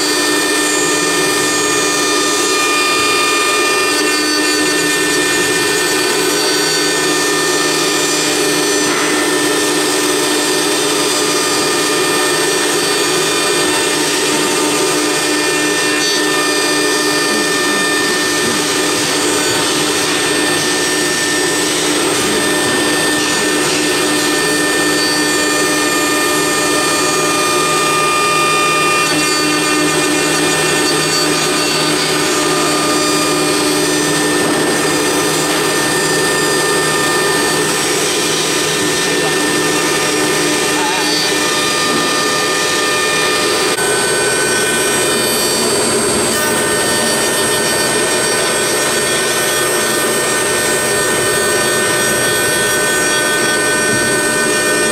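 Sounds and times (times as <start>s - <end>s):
router spindle milling wood: 0.0s - 54.9s.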